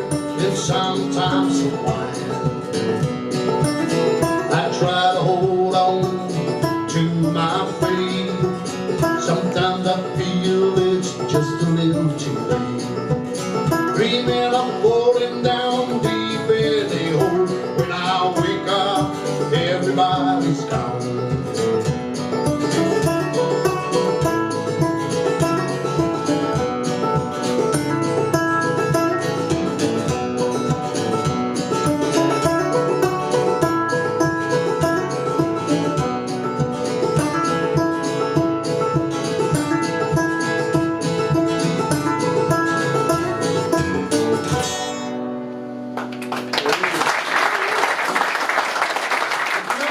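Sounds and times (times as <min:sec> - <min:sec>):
plucked string instruments: 0:00.0 - 0:47.0
live country band playing: 0:00.0 - 0:49.9.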